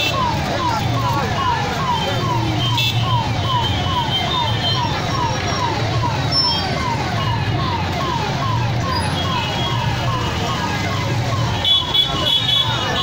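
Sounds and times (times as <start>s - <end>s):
ambulance siren wailing: 0.0s - 13.0s
hum of engines in traffic: 0.0s - 13.0s.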